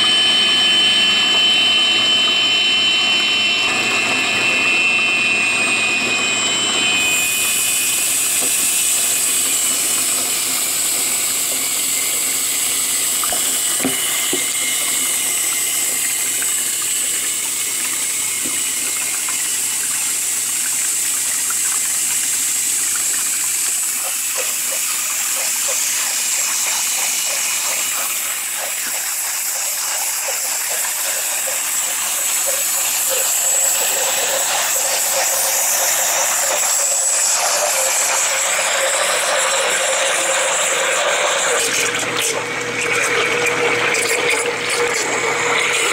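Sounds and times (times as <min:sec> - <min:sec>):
propellers churning water: 0:00.0 - 0:45.9
thin high motor whine: 0:00.0 - 0:45.9.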